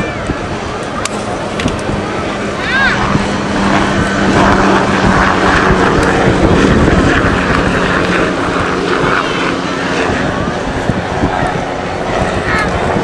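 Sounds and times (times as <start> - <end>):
helicopter drone: 0.0 - 13.0.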